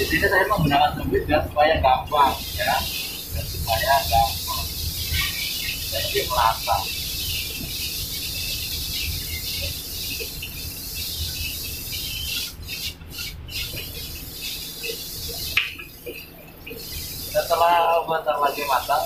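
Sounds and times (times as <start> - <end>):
food sizzling in a hot wok: 2.2 - 19.0.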